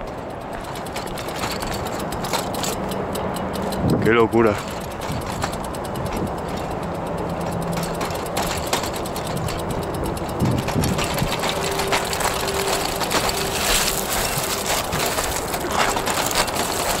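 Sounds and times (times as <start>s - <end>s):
bicycle ticking and rattling: 0.0s - 17.0s.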